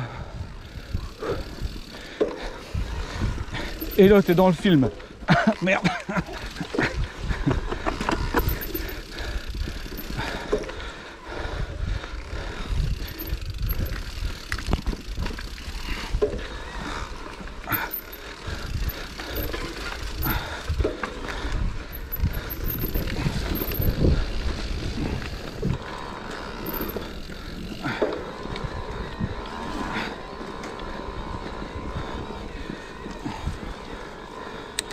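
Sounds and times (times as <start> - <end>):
bike tyres rolling on dirt: 0.0 - 34.9
bike rattling and knocking: 0.6 - 34.9.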